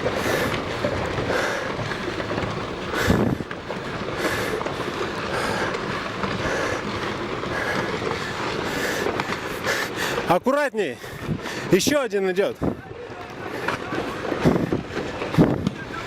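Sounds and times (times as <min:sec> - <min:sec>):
rocks tumbling rumble: 0:00.0 - 0:16.0.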